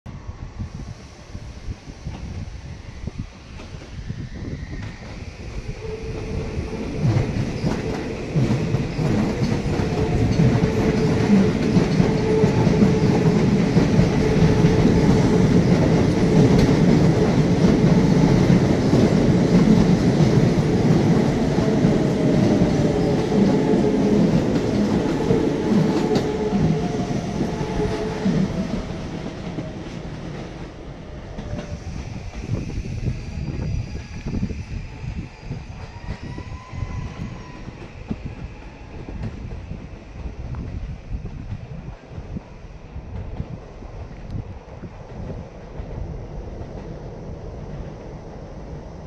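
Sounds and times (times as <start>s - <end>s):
electric trains rumbling past: 0.1s - 49.0s.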